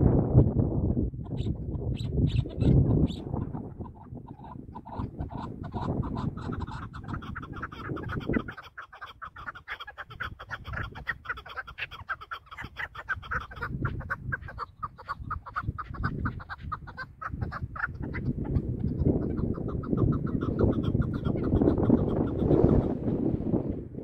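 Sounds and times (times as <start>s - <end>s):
partridge clucking calls: 1.2s - 23.3s.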